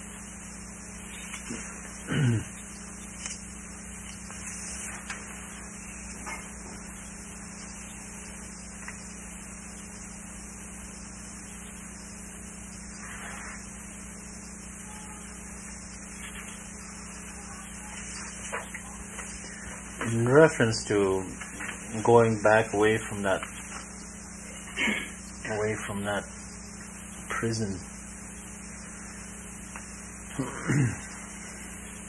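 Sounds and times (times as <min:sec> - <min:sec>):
recording hiss and hum: 0:00.0 - 0:32.0.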